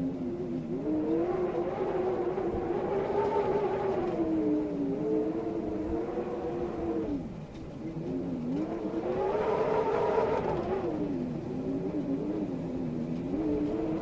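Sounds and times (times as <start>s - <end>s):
wind howling: 0.0s - 14.0s.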